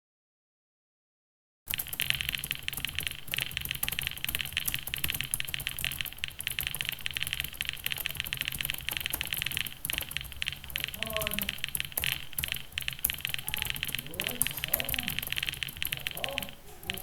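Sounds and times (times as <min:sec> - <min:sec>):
fast keyboard typing: 0:01.7 - 0:17.0.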